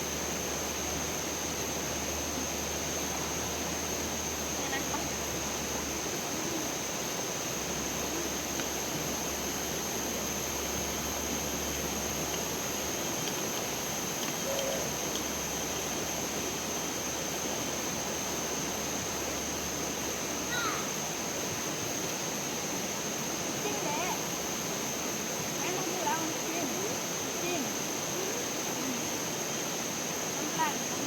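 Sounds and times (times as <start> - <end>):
stream water flowing: 0.0 - 31.0.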